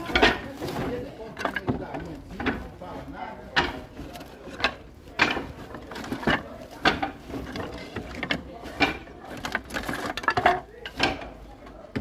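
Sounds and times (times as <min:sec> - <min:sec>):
knocks and scrapes on wood: 0:00.0 - 0:12.0.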